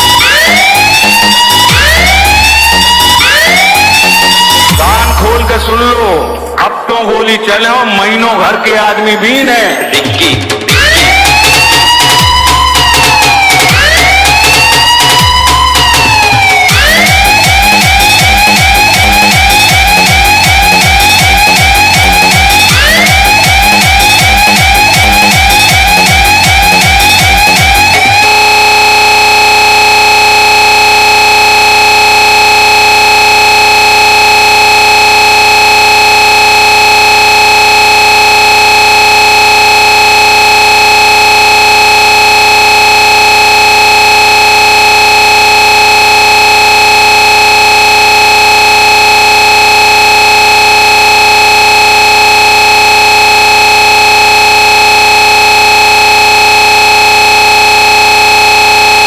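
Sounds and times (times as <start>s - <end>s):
distorted electronic siren: 0.0s - 7.3s, 8.2s - 59.0s.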